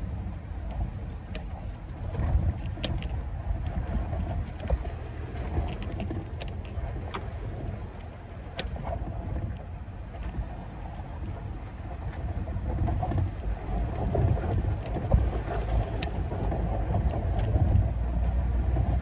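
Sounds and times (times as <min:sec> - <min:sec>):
engine and tyre rumble: 0:00.0 - 0:19.0
vehicle clicks and knocks: 0:00.6 - 0:10.4, 0:12.6 - 0:19.0.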